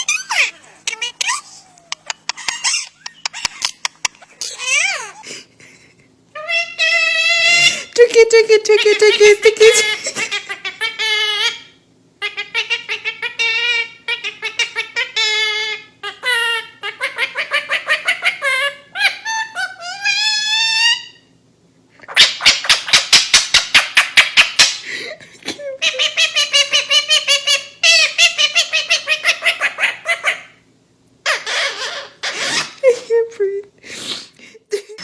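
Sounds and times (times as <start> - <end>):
parrot cackling: 0.0 - 5.3, 6.3 - 7.9, 8.8 - 21.3, 22.1 - 24.8, 25.8 - 30.6, 31.2 - 32.8.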